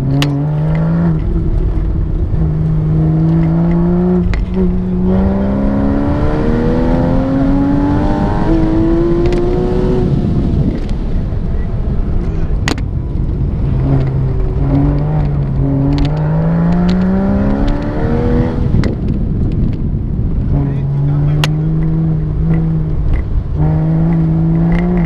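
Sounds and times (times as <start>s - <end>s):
car engine revving: 0.0s - 25.0s
tyre and road rumble: 0.0s - 25.0s.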